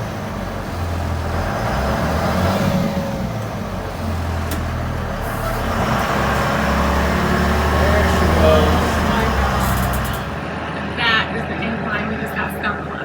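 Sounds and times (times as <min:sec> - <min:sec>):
bus engine straining: 0:00.0 - 0:13.0.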